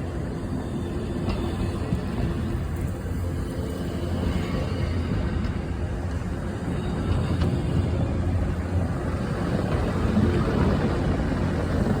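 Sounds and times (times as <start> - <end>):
freight train rumbling by: 0.0 - 12.0.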